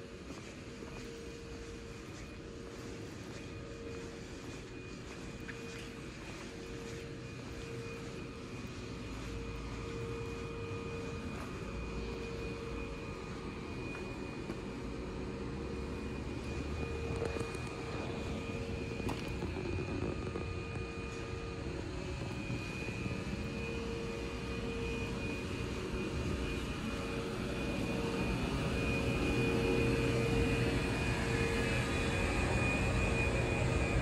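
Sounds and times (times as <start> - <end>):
electric trains humming: 0.0 - 34.0
faint high whine: 0.0 - 34.0.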